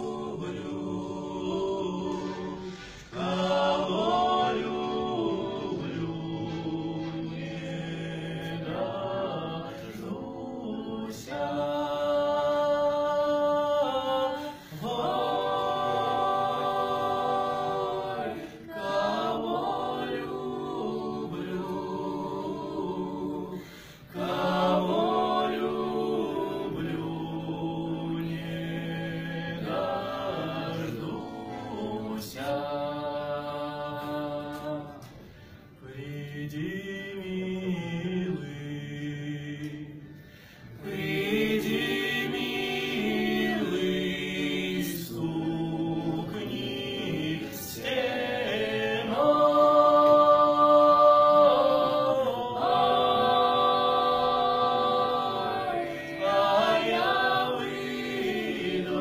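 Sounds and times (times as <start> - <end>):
mixed group singing a cappella: 0.0 - 59.0.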